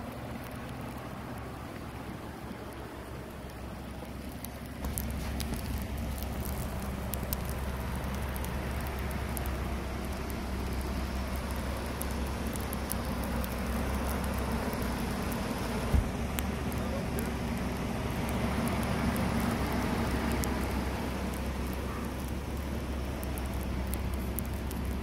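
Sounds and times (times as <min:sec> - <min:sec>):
pickup truck engine idling: 0:00.0 - 0:25.0
falling snow hiss: 0:00.1 - 0:25.0
small ticks: 0:03.5 - 0:15.5, 0:16.4 - 0:25.0.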